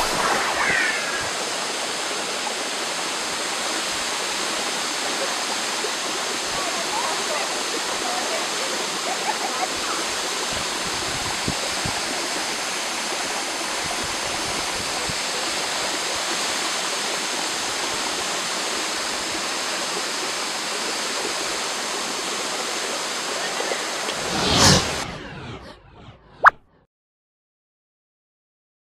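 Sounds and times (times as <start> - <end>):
waterfall rushing: 0.0 - 24.2.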